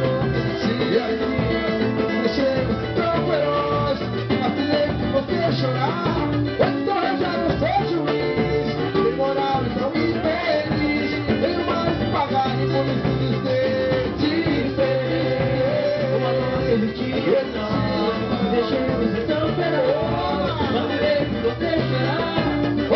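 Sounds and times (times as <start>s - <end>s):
percussion: 0.0s - 22.9s.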